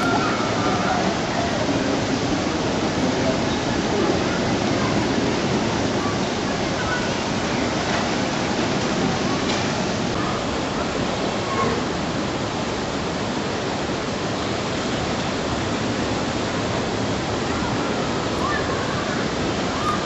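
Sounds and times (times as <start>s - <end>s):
faint voices: 0.0s - 12.3s, 14.5s - 20.0s.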